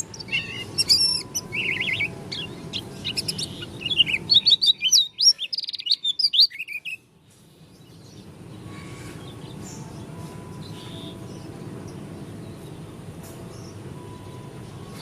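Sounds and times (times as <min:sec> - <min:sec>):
bird twittering song: 0:00.0 - 0:15.0.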